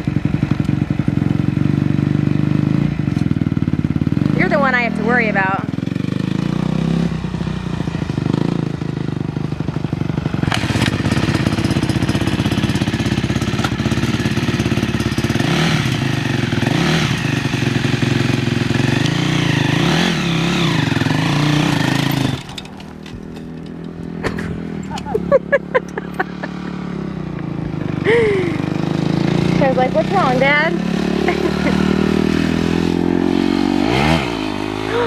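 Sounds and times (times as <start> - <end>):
dirt bike engine idling: 0.0 - 33.3
engine throttle blips: 3.0 - 9.0, 9.9 - 33.0.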